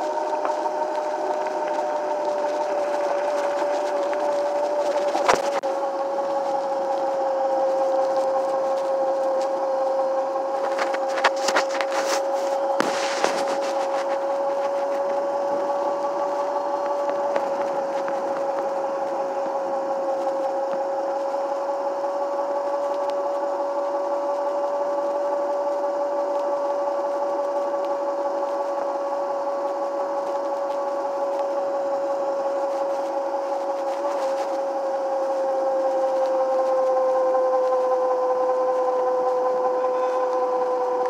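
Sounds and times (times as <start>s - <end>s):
electric scooter motor whining: 0.0s - 41.0s.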